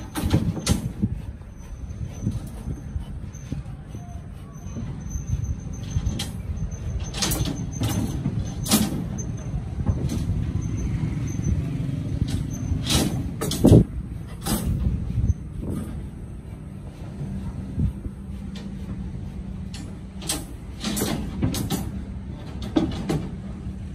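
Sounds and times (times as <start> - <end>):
steel bars clanking and scraping: 0.0 - 16.2, 18.4 - 23.8
steady low rumble: 0.0 - 23.9.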